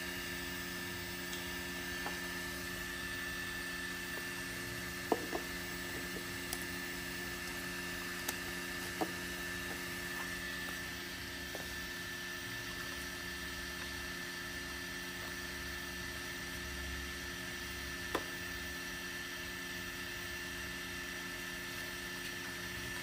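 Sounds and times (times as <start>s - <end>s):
fan hum: 0.0s - 23.0s.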